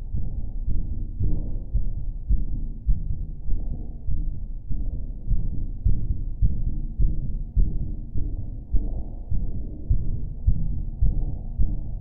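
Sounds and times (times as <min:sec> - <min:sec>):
heartbeat thuds: 0:00.1 - 0:12.0.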